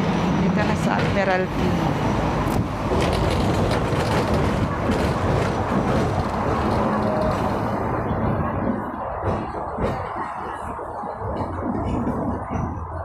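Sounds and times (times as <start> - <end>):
street traffic: 0.0 - 13.0
tram running hum: 0.0 - 13.0.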